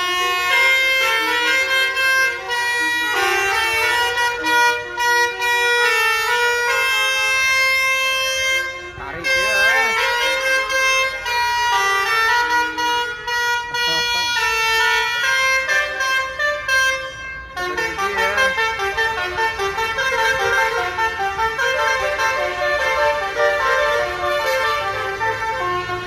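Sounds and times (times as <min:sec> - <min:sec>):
musical air horn playing a tune: 0:00.0 - 0:26.0.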